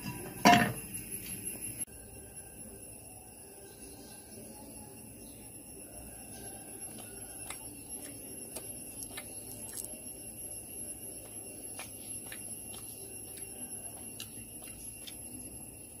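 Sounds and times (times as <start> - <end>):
steady high-pitched whine: 0.0 - 16.0.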